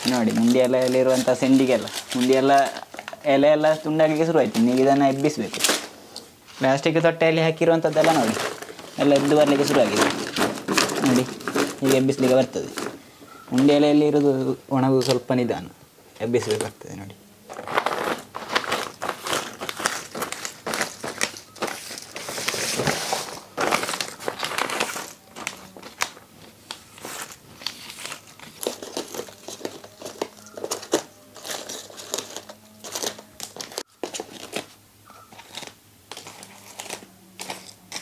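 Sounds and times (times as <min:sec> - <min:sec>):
brittle crisps clicking: 0:00.0 - 0:05.9, 0:07.9 - 0:14.4, 0:17.5 - 0:22.5, 0:23.6 - 0:34.7, 0:35.3 - 0:38.0
plastic sheet crinkling: 0:00.0 - 0:15.3, 0:16.2 - 0:38.0.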